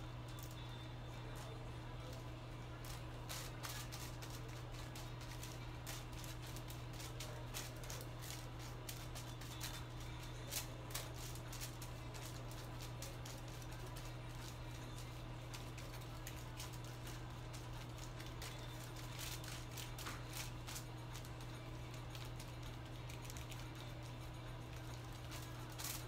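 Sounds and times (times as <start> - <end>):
brush ticking on foil: 0.0 - 26.0
steady low hum: 0.0 - 26.0
foil crinkling: 0.3 - 26.0.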